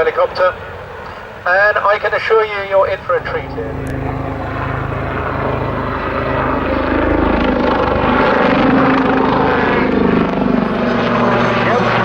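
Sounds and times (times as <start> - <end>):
military helicopter running: 0.0 - 12.0.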